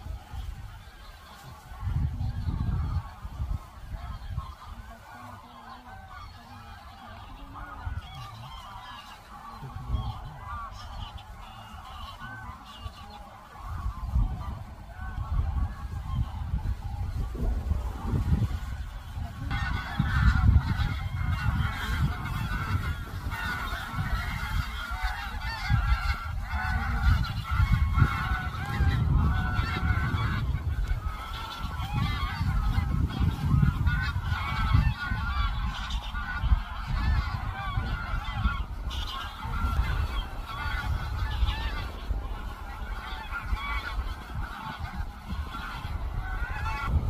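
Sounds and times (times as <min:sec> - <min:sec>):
geese honking: 0:00.0 - 0:47.0.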